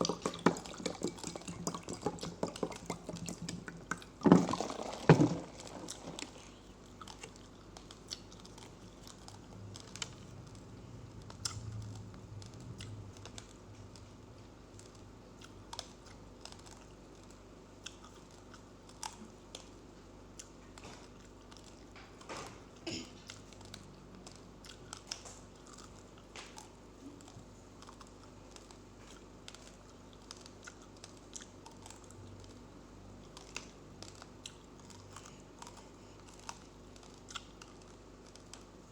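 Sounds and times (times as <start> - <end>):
chewing raw rice crunches: 0.0 - 38.9.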